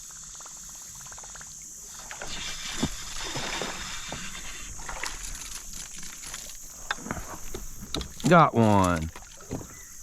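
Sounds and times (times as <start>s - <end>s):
water splashing and sloshing: 0.2s - 10.0s.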